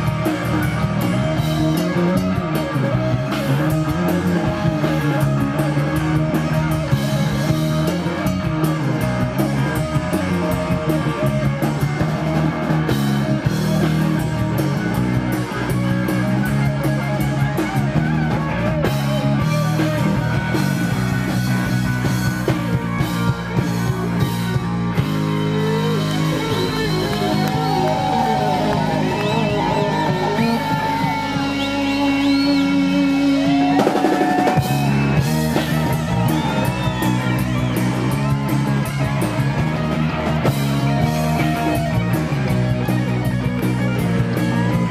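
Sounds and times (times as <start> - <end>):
bass guitar: 0.0 - 44.9
drum kit: 0.0 - 44.9
electric guitars: 0.0 - 44.9.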